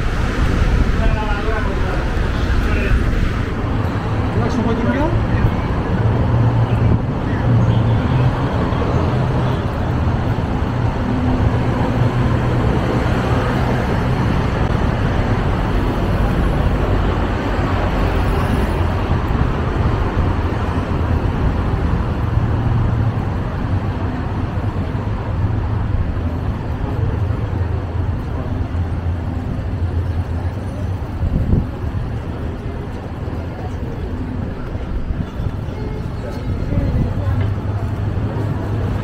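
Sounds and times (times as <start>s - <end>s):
car engines rumbling: 0.0s - 39.0s.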